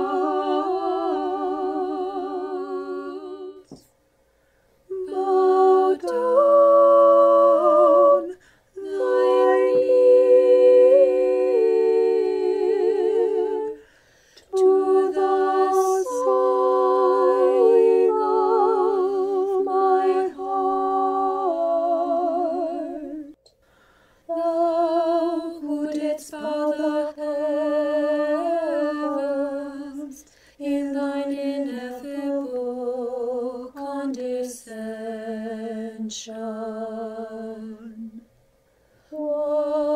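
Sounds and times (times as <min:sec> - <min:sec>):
choir singing a cappella: 0:00.0 - 0:03.9, 0:04.9 - 0:23.4, 0:24.3 - 0:38.3, 0:39.0 - 0:39.9.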